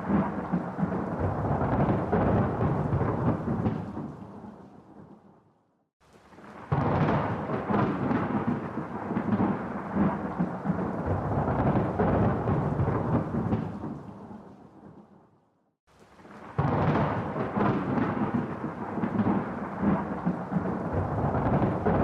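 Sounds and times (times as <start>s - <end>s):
thunder clap and rolling rumble: 0.0s - 5.1s, 6.6s - 15.0s, 16.4s - 22.0s.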